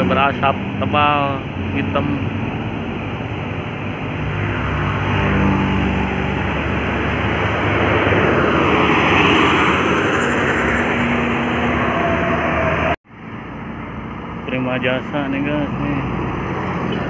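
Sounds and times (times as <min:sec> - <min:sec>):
heavy diesel engines passing: 0:00.0 - 0:17.0.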